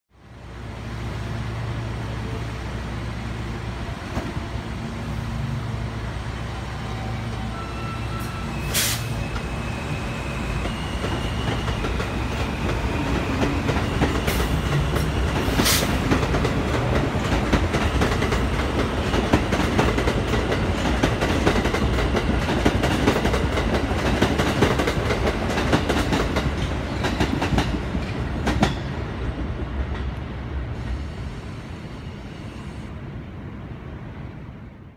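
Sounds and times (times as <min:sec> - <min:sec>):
subway train propulsion whine: 0:00.2 - 0:34.9.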